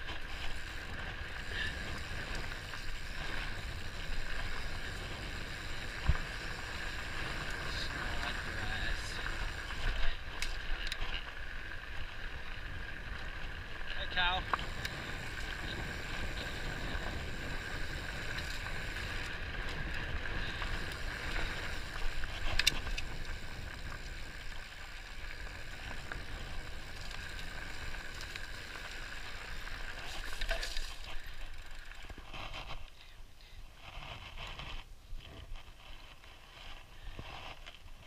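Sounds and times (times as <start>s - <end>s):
wind rumble on microphone: 0.0s - 31.2s
bike tyres rattling over dirt: 0.0s - 38.0s.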